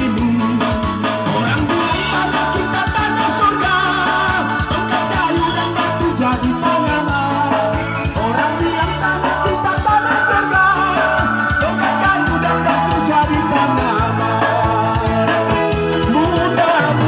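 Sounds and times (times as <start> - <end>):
amplified instrumental backing: 0.0 - 17.0
man singing into a microphone: 0.0 - 17.0.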